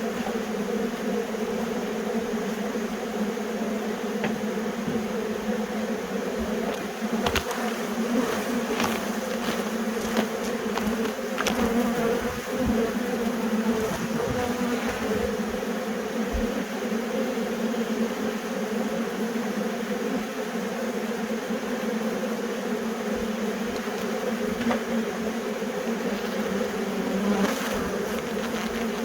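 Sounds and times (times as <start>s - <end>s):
honey bees buzzing: 0.0s - 29.0s.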